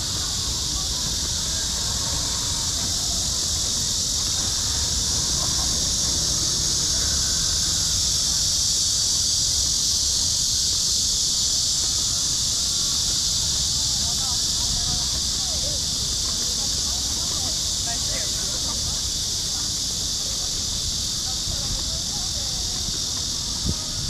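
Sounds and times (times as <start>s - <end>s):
cicadas droning: 0.0s - 24.0s
low city rumble: 0.0s - 24.0s.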